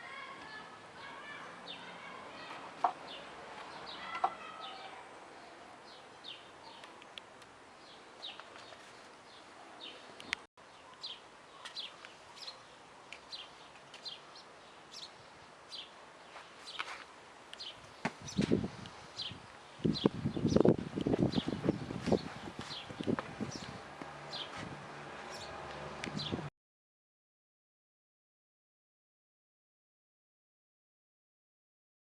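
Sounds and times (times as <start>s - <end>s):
birds chirping: 0.0s - 26.5s.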